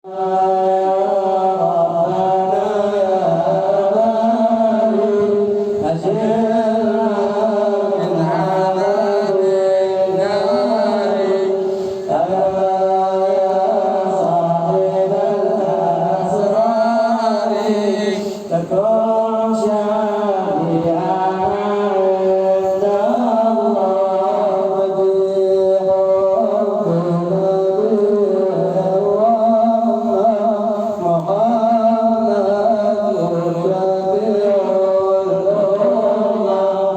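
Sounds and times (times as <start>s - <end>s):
man chanting: 0.0s - 36.9s
man singing devotional song: 0.0s - 36.9s.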